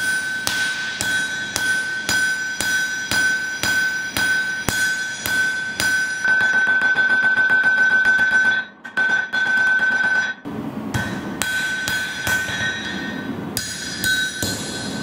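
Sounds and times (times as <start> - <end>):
anvil ringing: 0.0 - 15.0
hammer striking metal on anvil: 0.0 - 15.0.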